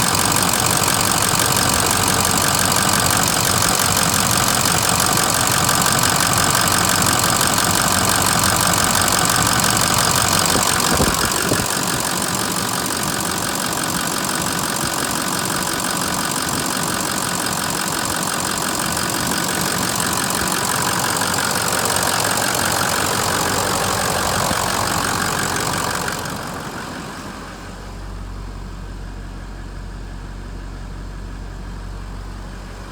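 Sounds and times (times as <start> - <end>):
diesel engine clatter: 0.0 - 32.9.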